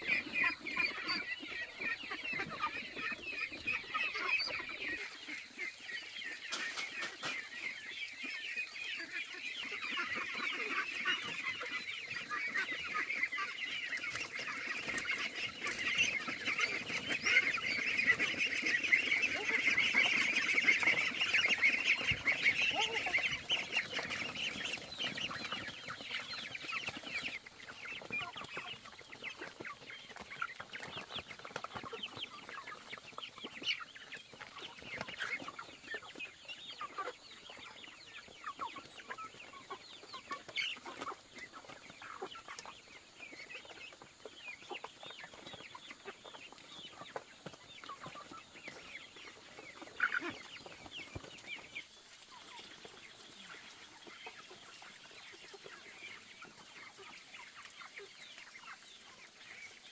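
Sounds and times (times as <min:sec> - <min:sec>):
ducklings and chicks peeping: 0:00.0 - 0:59.9.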